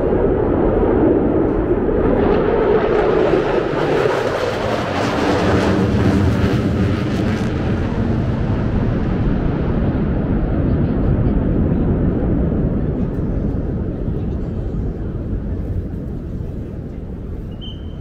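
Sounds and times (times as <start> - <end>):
military jet flying overhead: 0.0 - 18.0.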